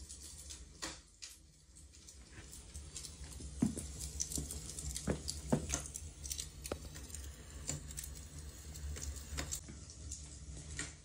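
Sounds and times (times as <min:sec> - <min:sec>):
log fire crackling: 0:00.0 - 0:11.0
low steady hum: 0:00.0 - 0:11.0.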